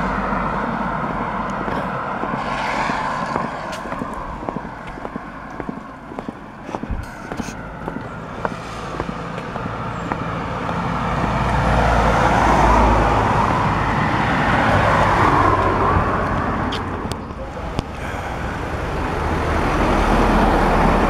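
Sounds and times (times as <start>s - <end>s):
car passing: 0.0s - 21.0s.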